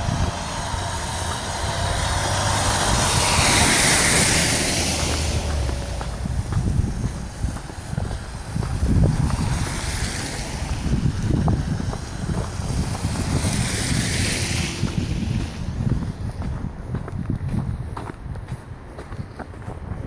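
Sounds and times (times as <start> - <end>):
wind buffeting the microphone: 0.0 - 20.0.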